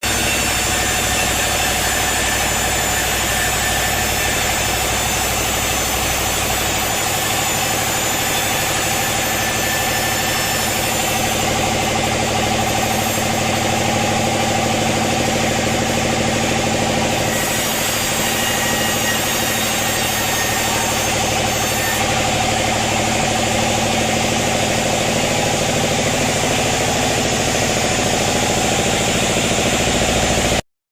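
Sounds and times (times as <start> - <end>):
sawmill machinery droning: 0.0 - 30.6.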